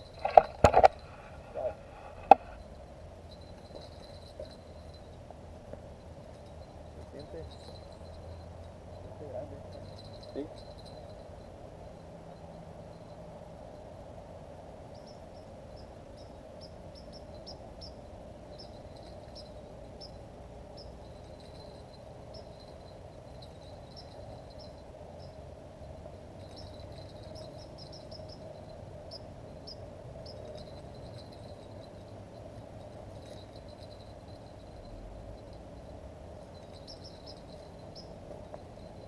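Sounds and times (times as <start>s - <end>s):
crickets chirping: 0.0s - 39.0s
low rushing background noise: 0.0s - 39.0s.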